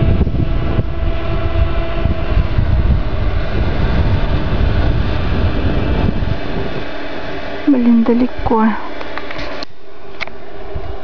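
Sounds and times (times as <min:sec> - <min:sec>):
faint steady hum: 0:00.0 - 0:11.0
wind buffeting the microphone: 0:00.0 - 0:11.0.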